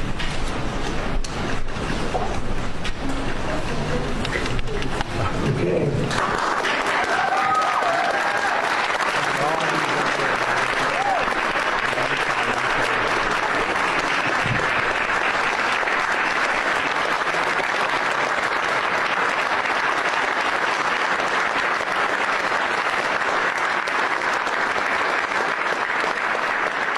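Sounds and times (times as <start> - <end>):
audience applauding: 4.2 - 26.9.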